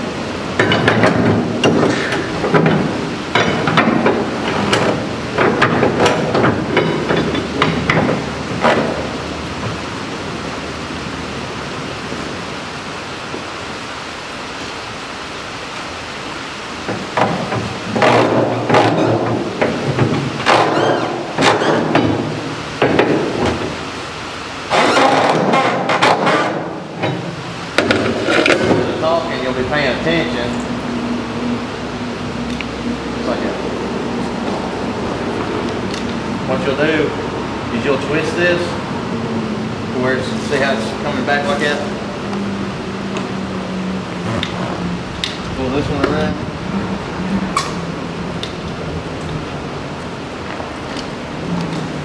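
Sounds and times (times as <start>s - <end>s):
steady hiss: 0.0s - 52.0s.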